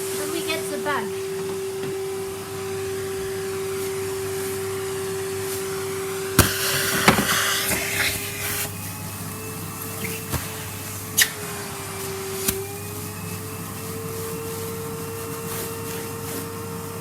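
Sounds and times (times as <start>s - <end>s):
vacuum cleaner motor hum: 0.0s - 17.0s.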